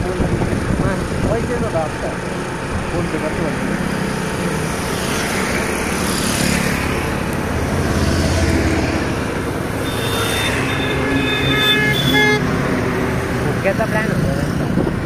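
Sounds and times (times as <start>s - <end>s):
motorcycle engines passing: 0.0s - 15.0s
road traffic: 0.0s - 15.0s.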